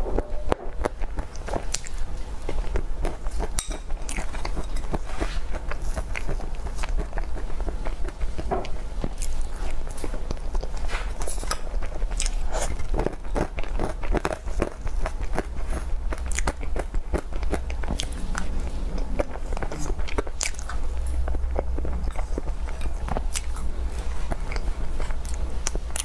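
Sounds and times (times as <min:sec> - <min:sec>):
steady low hum: 0:00.0 - 0:26.0
moist chewing: 0:00.2 - 0:26.0.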